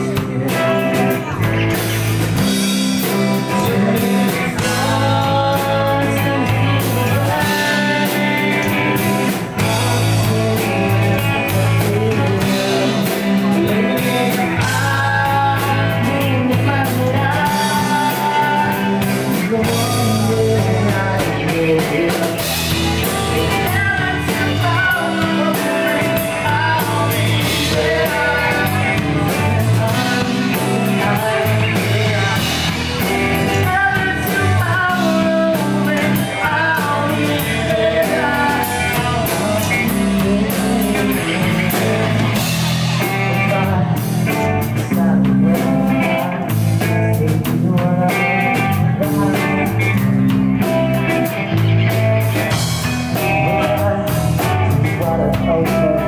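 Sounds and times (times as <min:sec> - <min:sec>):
bass guitar: 0:00.0 - 0:56.0
distorted electric guitars: 0:00.0 - 0:56.0
drum kit: 0:00.0 - 0:56.0
person singing into microphone: 0:00.0 - 0:56.0.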